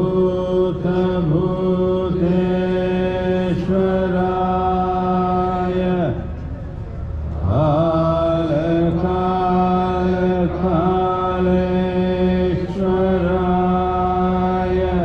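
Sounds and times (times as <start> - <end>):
mantra chanting: 0.0 - 6.3, 7.4 - 15.0.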